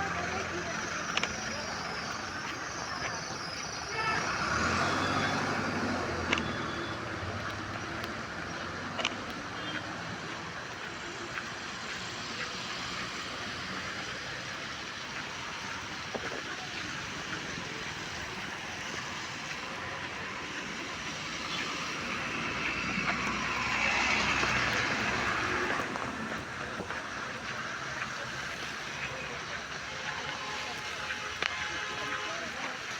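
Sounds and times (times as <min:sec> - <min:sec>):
rain hissing: 0:00.0 - 0:32.9
traffic on a wet road: 0:00.0 - 0:32.9
vehicle tyre swish and engine: 0:00.0 - 0:32.9.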